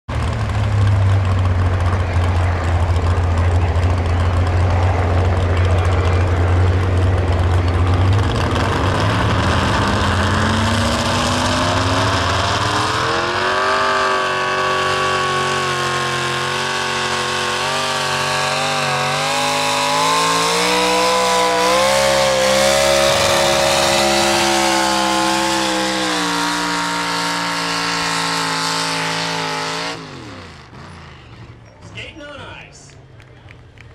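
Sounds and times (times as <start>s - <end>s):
truck engine at full throttle: 0.1s - 33.9s.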